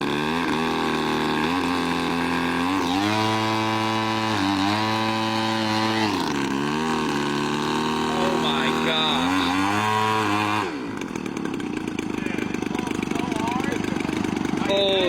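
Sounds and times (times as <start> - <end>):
model airplane engine buzzing: 0.0 - 15.0.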